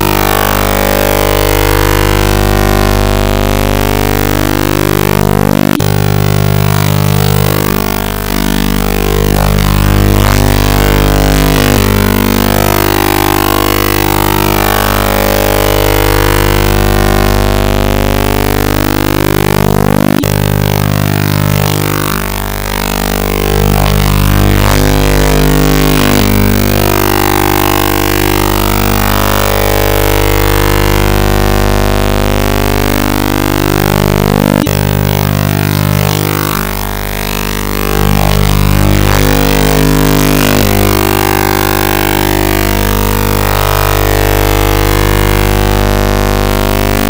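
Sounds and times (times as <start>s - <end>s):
distorted electronic drone: 0.0s - 47.0s.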